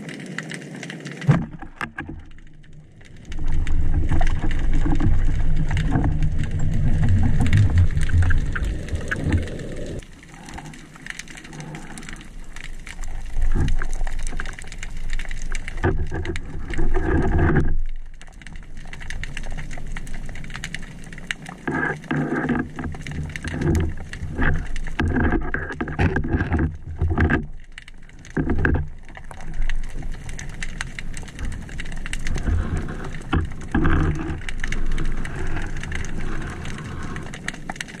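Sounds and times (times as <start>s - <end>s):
underwater water surges: 0.0s - 27.3s, 27.9s - 38.0s.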